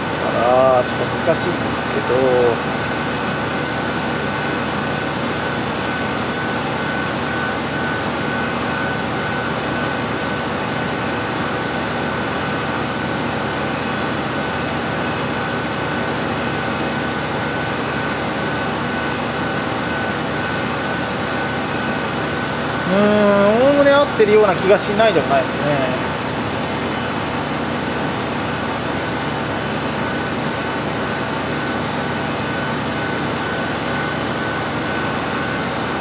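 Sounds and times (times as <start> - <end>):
high machine whine: 0.0 - 36.0
whooshing machine hum: 0.0 - 36.0.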